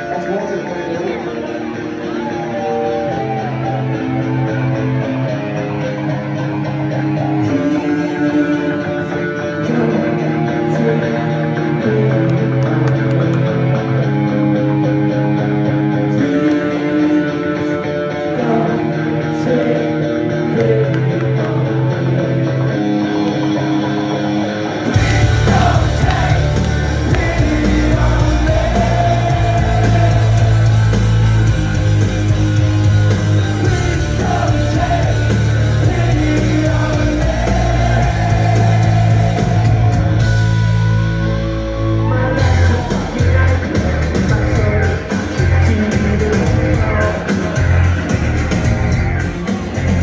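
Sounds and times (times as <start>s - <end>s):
electric guitar: 0.0s - 50.0s
rock band playing live: 0.0s - 50.0s.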